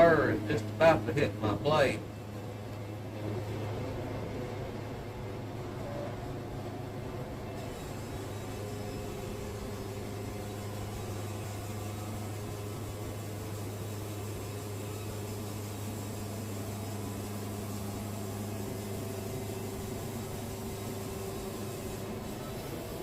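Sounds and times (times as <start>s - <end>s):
band sawmill engine drone: 0.0s - 23.0s.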